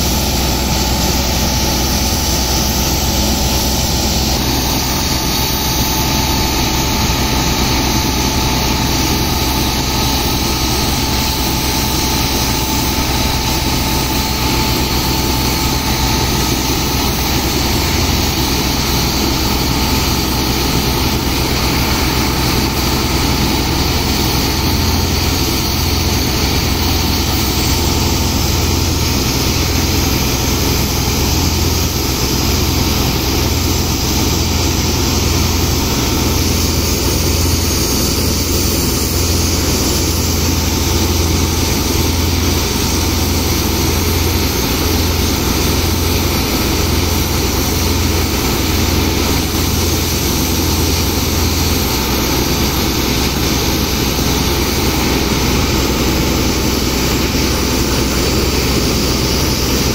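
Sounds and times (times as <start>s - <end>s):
water pump engine running: 0.0s - 59.9s.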